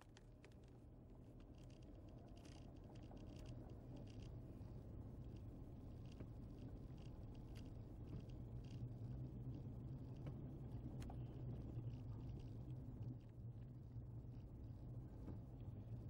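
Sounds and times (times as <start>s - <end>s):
car engine and tyres hum: 0.2s - 16.0s.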